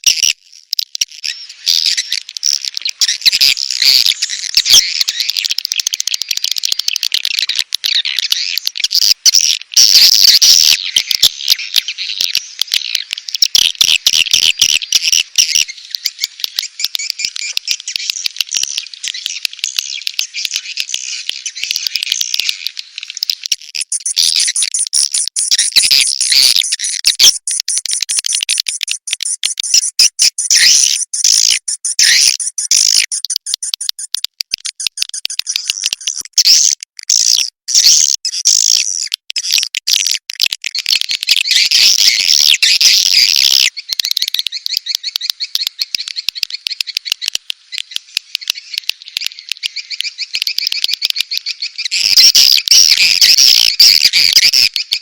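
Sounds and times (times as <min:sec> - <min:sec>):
swiftlets chirping and twittering: 0:00.0 - 0:55.0.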